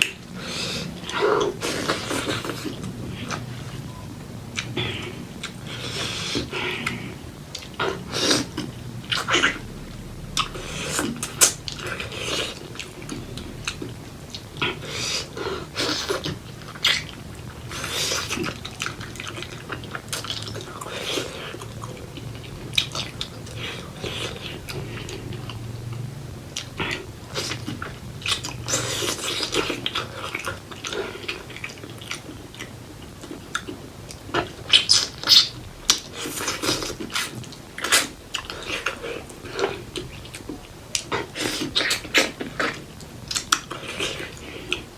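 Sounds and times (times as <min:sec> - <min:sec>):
mouth chewing and smacking: 0:00.0 - 0:09.7, 0:10.4 - 0:44.9.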